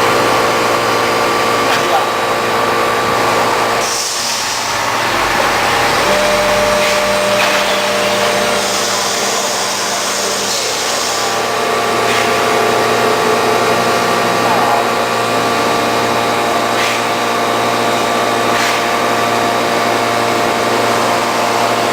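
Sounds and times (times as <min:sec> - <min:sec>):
router machine drone and whine: 0:00.0 - 0:21.9.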